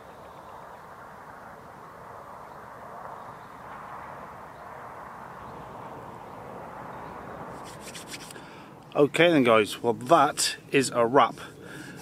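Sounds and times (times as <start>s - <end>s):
continuous outdoor hiss: 0.0s - 12.0s.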